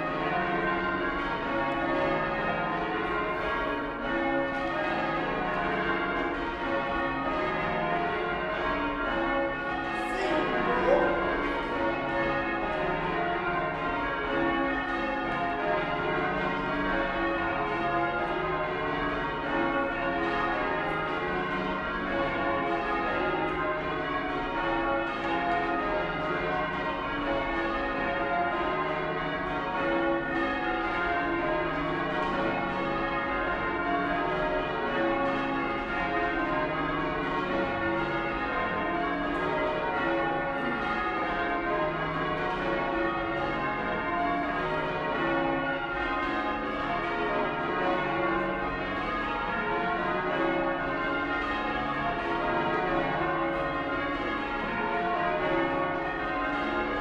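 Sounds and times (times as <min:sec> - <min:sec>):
church bells change ringing: 0:00.0 - 0:57.0.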